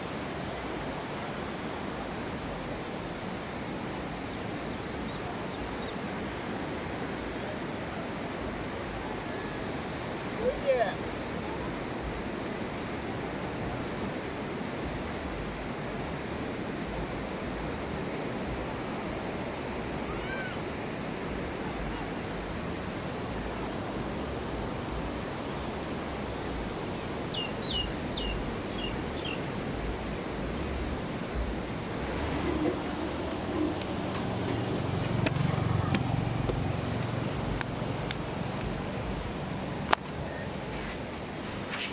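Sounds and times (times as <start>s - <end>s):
ocean surf washing onto beach: 0.0s - 41.9s.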